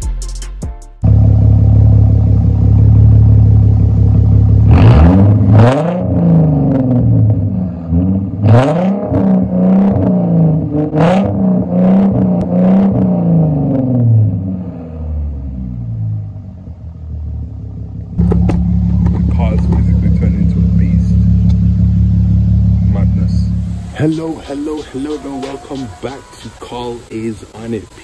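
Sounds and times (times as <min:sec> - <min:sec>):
car engine idling and revving: 0:01.0 - 0:28.0.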